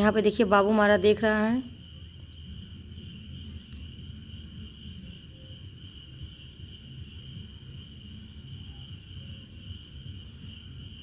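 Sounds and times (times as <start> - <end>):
high-pitched insect chirring: 1.5 - 11.0.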